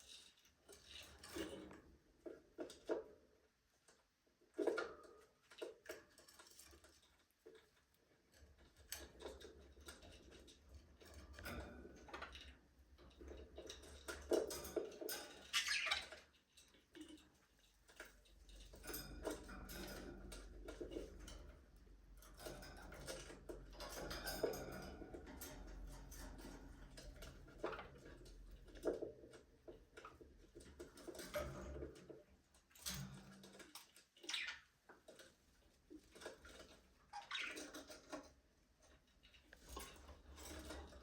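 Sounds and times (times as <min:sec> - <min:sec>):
birds clicking and scratching in cage: 0:00.0 - 0:41.0.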